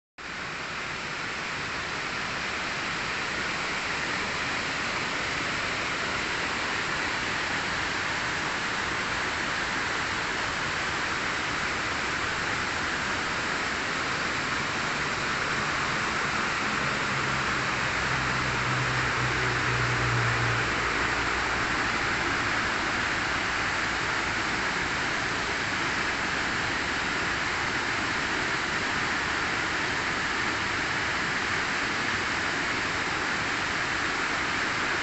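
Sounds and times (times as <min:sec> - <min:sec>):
waterfall roaring: 0:00.2 - 0:35.0.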